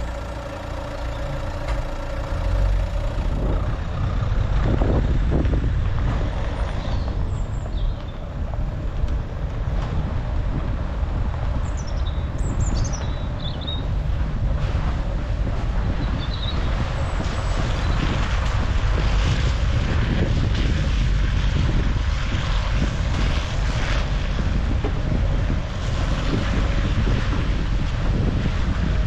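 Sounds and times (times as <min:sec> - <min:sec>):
car road and engine rumble: 0:00.0 - 0:29.0
wind buffeting microphone: 0:00.0 - 0:29.0.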